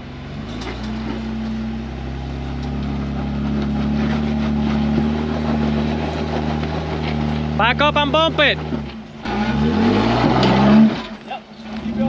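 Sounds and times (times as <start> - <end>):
off-road engine running: 0.0 - 12.0.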